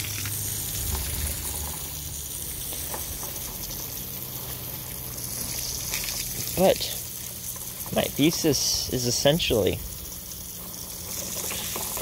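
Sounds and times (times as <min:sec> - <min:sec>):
garden hose spraying water: 0:00.0 - 0:12.0.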